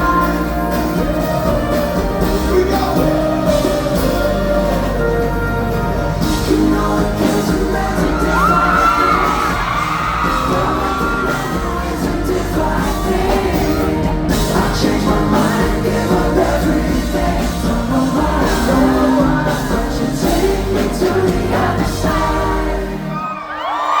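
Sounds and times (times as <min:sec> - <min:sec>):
crowd singing and yelling: 0:00.0 - 0:24.0
live pop band with singing: 0:00.0 - 0:24.0.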